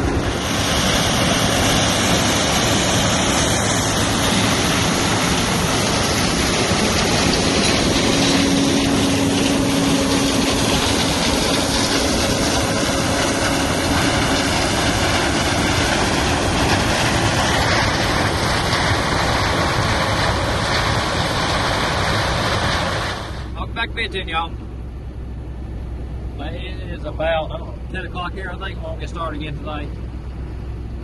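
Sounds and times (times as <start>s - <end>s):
diesel farm machinery running: 0.0s - 31.0s.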